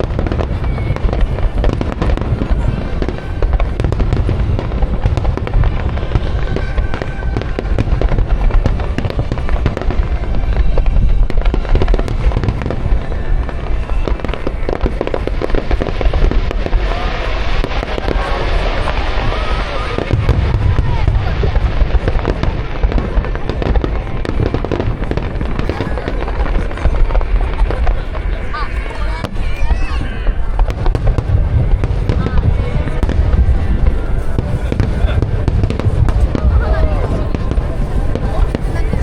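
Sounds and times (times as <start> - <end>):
fireworks booming: 0.0 - 39.0
fireworks crackling bursts: 0.0 - 39.0
whistling fireworks: 0.0 - 39.0.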